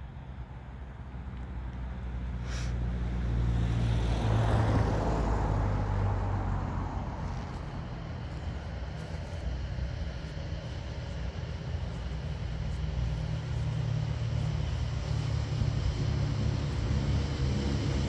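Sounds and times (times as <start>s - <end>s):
low engine rumble: 0.0s - 18.0s
road noise rush: 0.0s - 18.0s.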